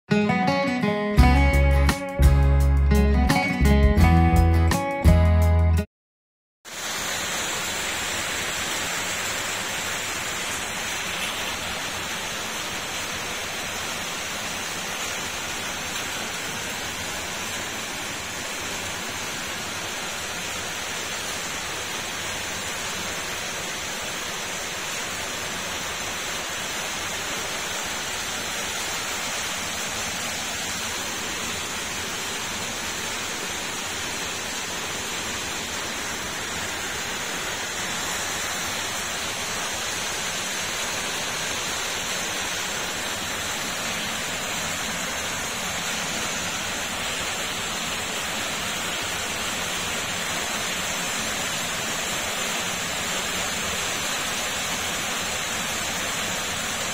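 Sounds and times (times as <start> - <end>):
steady hiss: 6.7 - 56.9.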